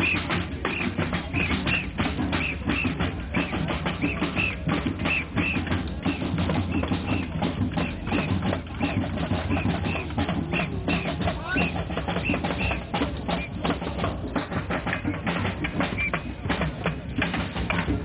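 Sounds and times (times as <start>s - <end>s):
drums playing a quick beat: 0.0s - 18.0s.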